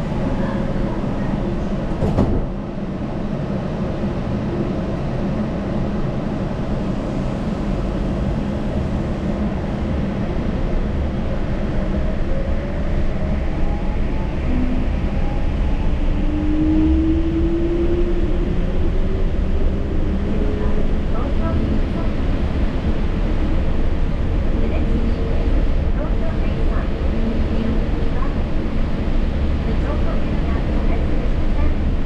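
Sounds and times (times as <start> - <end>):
train running rumble: 0.0 - 32.0.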